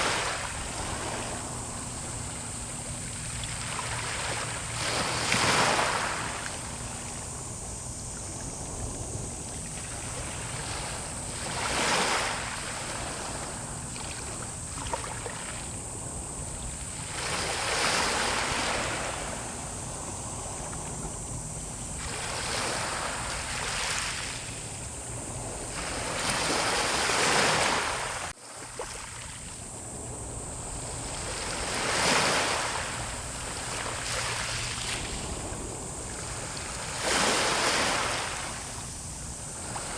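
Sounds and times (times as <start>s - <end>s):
sea waves breaking on shore: 0.0s - 7.4s, 8.4s - 15.8s, 16.6s - 21.0s, 22.0s - 29.5s, 30.2s - 39.9s.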